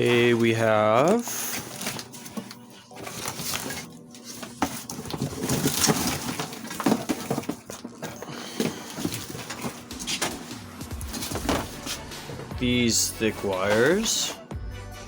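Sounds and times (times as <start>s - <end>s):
rustling of handled objects: 0.0s - 12.1s.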